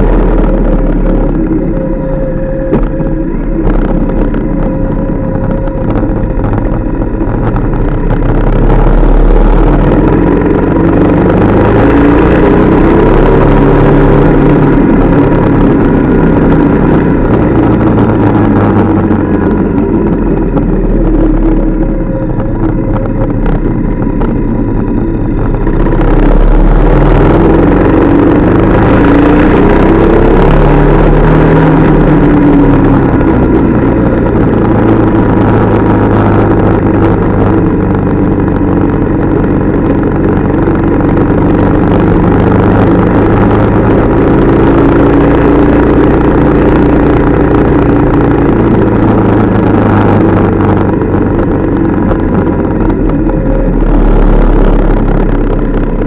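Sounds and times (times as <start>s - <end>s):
motorcycle engine running: 0.0s - 56.0s
wind rumble: 0.0s - 56.0s.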